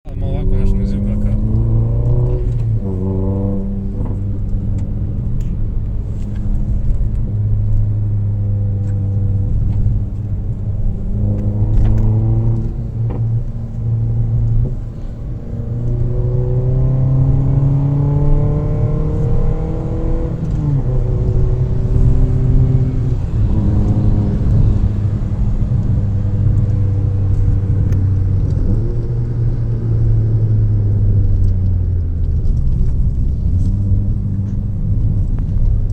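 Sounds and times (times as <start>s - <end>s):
car engine revving: 0.1s - 35.9s.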